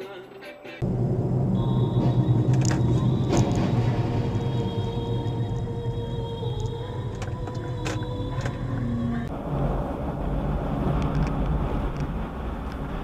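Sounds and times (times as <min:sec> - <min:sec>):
car driving on highway: 0:00.8 - 0:13.0
steady tones: 0:00.8 - 0:13.0.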